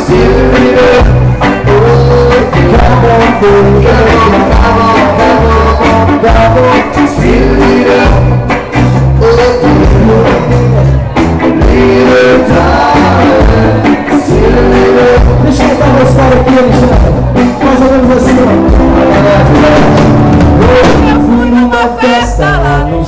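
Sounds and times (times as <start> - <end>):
bass line: 0.0 - 23.0
live reggae band: 0.0 - 23.0
person singing: 0.0 - 23.0.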